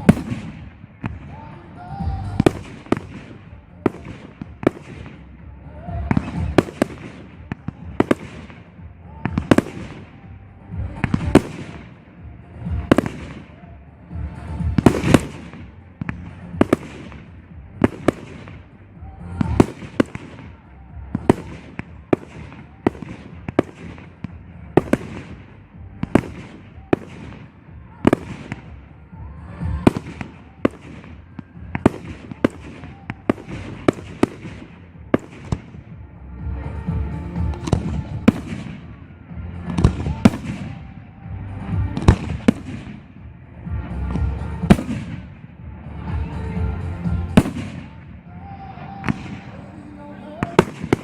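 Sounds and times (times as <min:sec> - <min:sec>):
fireworks bursting with echo: 0:00.0 - 0:51.0.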